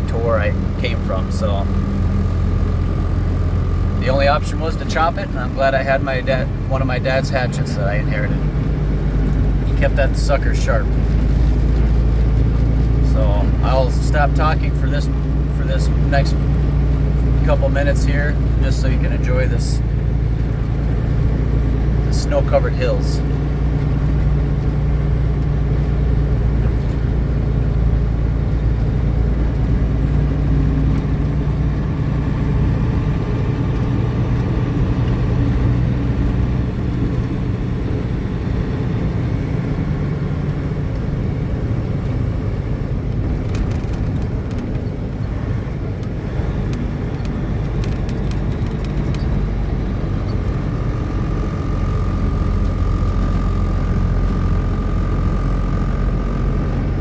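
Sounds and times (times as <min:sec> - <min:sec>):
truck engine and road drone: 0:00.0 - 0:57.0.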